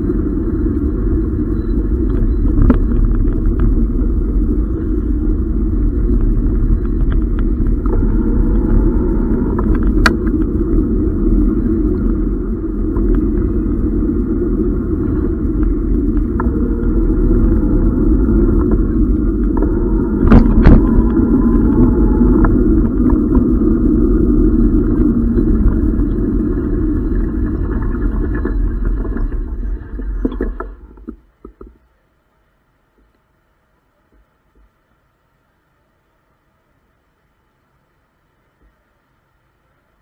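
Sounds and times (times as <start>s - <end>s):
muffled bike rumble on rough road: 0.0s - 40.0s.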